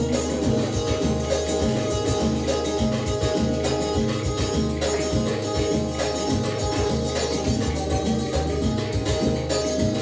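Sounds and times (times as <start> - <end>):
belly dance music: 0.0 - 10.0
steady drum beat: 0.0 - 10.0.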